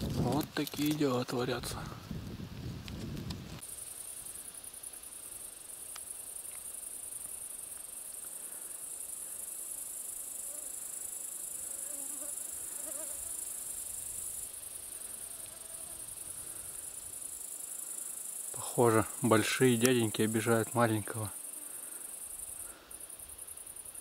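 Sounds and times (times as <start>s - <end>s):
grasshoppers and crickets chirring: 0.0s - 24.0s.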